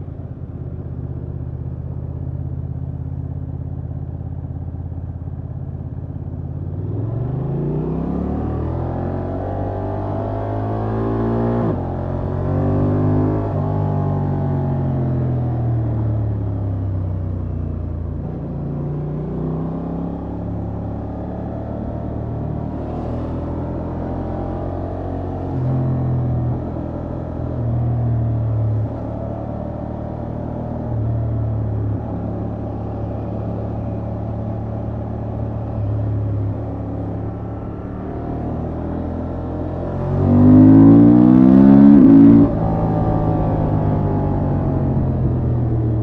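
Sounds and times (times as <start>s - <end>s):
motorcycle engine accelerating: 6.5s - 46.0s.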